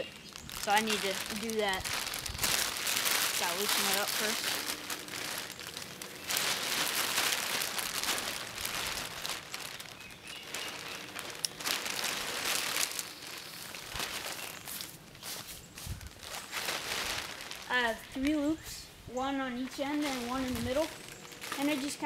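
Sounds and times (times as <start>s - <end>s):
tarp crinkling and rustling: 0.0s - 22.0s.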